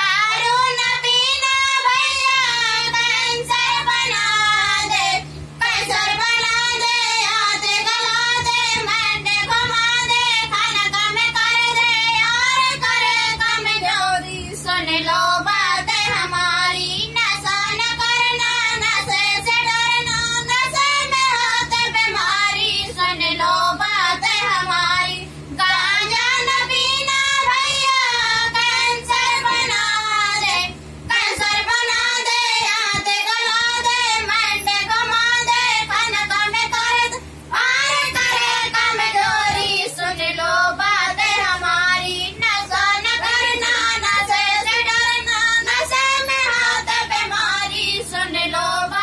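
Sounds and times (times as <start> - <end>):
young women singing together: 0.0 - 49.0.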